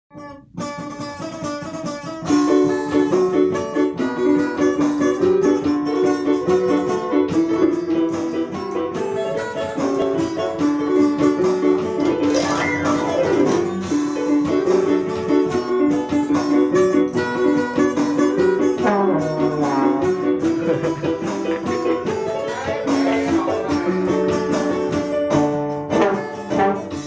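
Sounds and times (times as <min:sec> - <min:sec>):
small band playing: 0:00.1 - 0:27.0.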